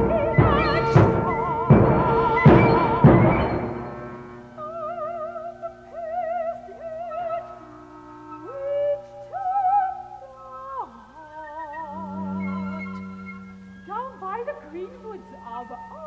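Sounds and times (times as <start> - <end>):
chamber ensemble playing: 0.0 - 16.0.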